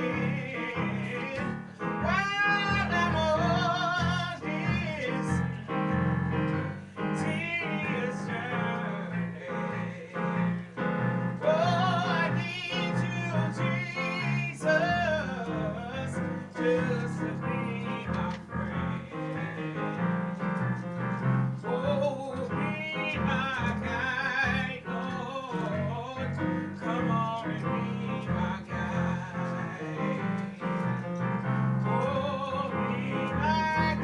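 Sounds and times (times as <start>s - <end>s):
person singing with vibrato: 0.0s - 5.9s, 6.6s - 20.1s, 21.6s - 31.1s, 31.8s - 34.0s
piano accompaniment: 0.0s - 34.0s.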